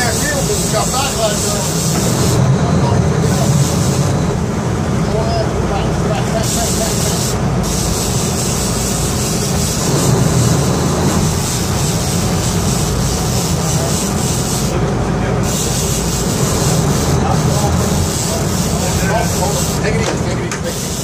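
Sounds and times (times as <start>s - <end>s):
boat engines rumbling: 0.0s - 21.0s.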